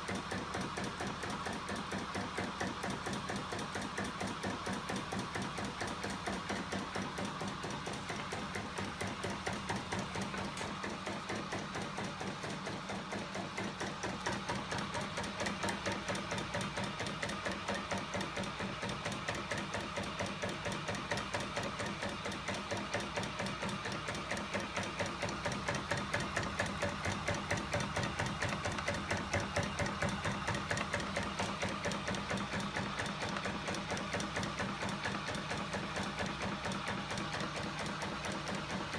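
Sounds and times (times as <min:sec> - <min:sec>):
rapid mechanical clatter: 0:00.0 - 0:38.9.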